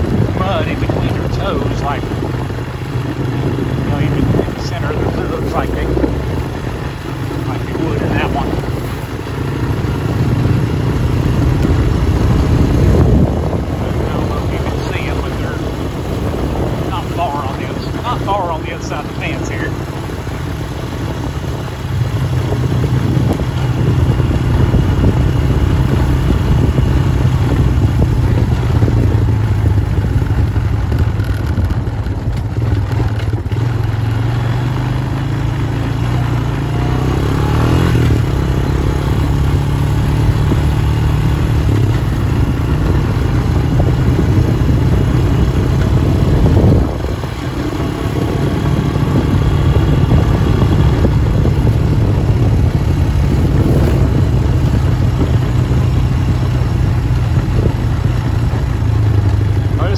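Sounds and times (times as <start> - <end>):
small vehicle engine driving: 0.0 - 59.9.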